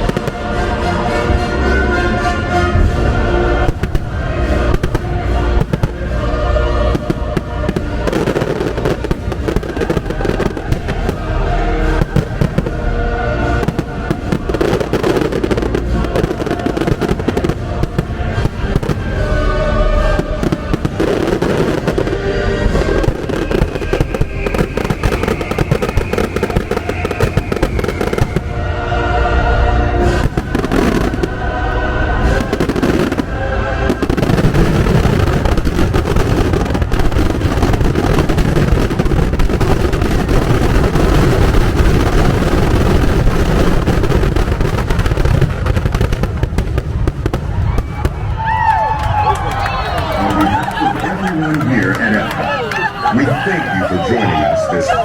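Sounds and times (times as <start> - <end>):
fireworks bursting: 0.0 - 1.6, 2.6 - 55.0
loud show music: 0.0 - 47.4, 48.8 - 55.0.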